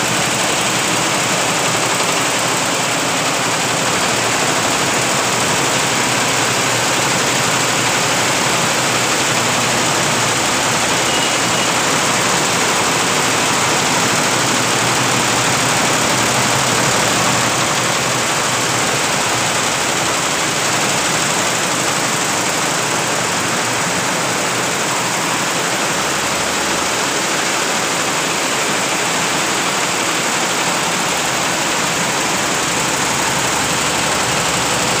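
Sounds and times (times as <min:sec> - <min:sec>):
embroidery machines running: 0:00.0 - 0:35.0.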